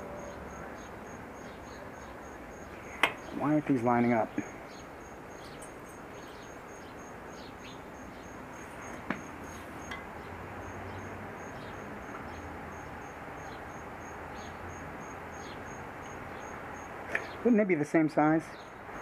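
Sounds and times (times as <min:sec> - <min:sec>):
insect chirping: 0:00.0 - 0:17.5, 0:18.5 - 0:19.0
background hiss: 0:00.0 - 0:19.0.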